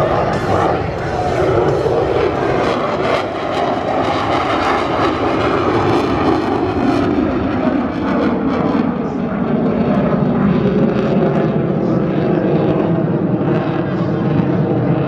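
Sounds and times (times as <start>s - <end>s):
airplane engine running: 0.0s - 15.0s.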